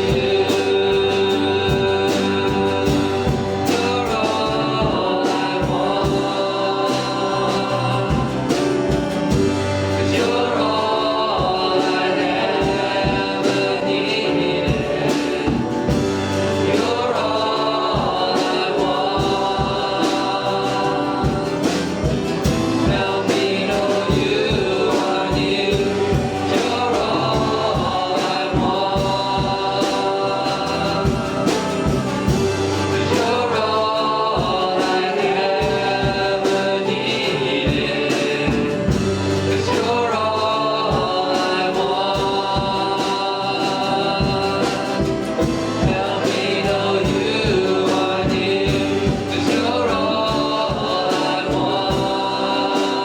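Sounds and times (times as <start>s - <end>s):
steady drum beat: 0.0s - 53.0s
voices singing worship song: 0.0s - 53.0s.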